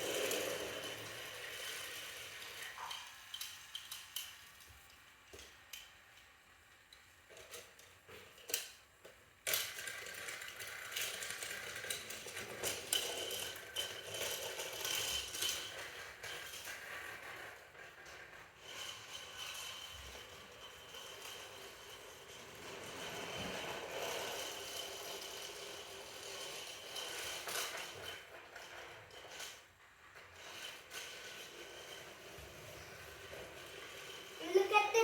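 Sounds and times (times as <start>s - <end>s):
toy train whirring rattle: 0.0s - 35.0s.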